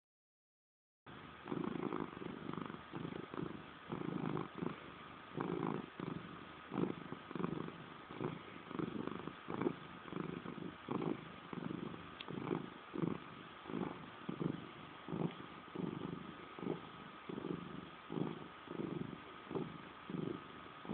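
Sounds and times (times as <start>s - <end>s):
cat purring: 1.1s - 20.9s.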